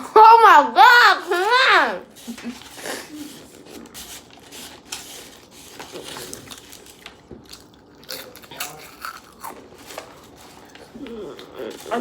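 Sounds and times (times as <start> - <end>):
crackles and crinkles: 1.1 - 12.0
people crunching snacks: 1.2 - 12.0.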